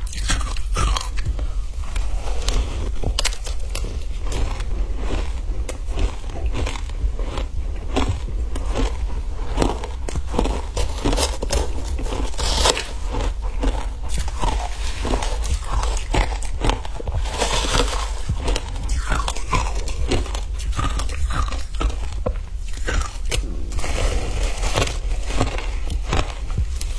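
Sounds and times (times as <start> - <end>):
chewing ice crunches: 0.0 - 26.9.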